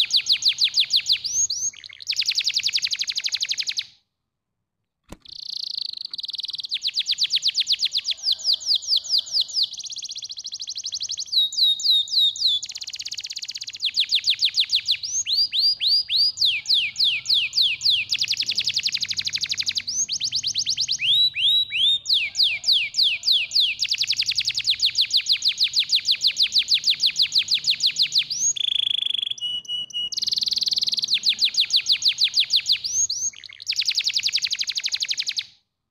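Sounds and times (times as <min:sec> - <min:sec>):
canary singing fast trills: 0:00.0 - 0:03.9, 0:05.2 - 0:35.5.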